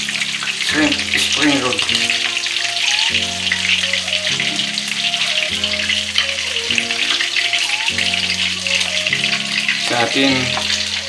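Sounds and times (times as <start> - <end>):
food sizzling in hot oil: 0.0 - 11.0
quiet background music: 0.0 - 11.0.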